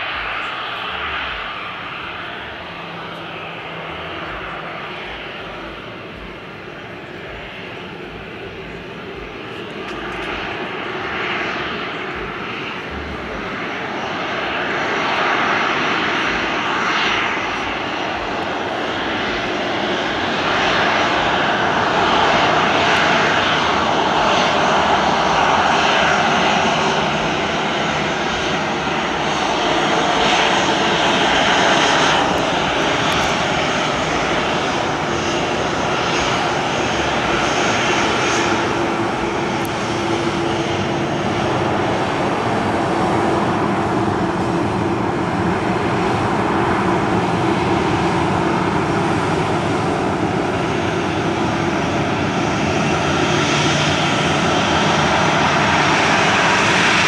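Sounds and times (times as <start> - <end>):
jet engines rushing: 0.0 - 57.0.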